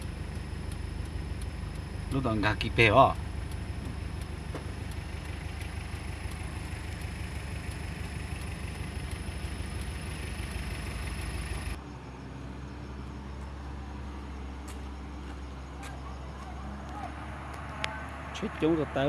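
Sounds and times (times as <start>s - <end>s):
vehicle engine drone: 0.0s - 19.0s.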